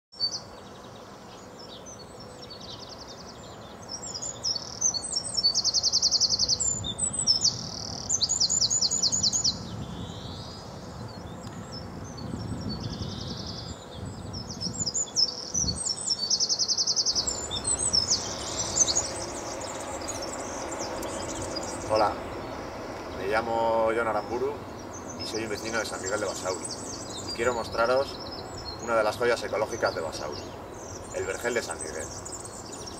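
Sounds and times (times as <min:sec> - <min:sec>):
songbird trilling: 0:00.2 - 0:32.9
steady background hiss: 0:00.2 - 0:32.9.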